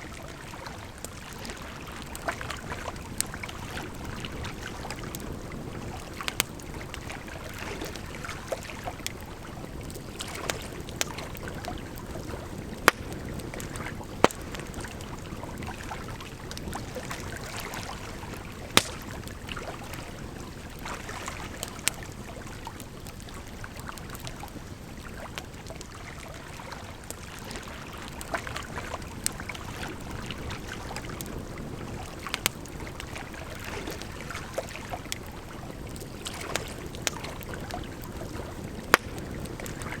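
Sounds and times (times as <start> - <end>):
campfire crackling and popping: 0.0 - 40.0
flowing water: 0.0 - 40.0.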